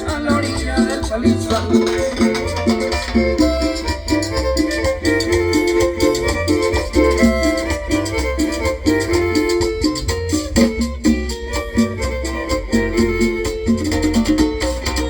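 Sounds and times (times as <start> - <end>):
plucked strings: 0.0 - 15.0
steady beat: 0.0 - 15.0
violin melody: 0.0 - 15.0.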